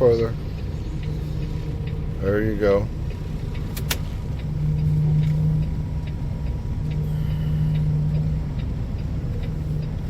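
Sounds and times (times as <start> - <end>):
diesel truck engine running: 0.0 - 10.0
light regular ticking: 0.0 - 10.0.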